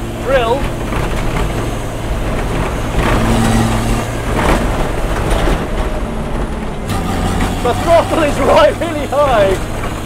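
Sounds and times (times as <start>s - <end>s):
diesel engine inside car: 0.0s - 10.0s.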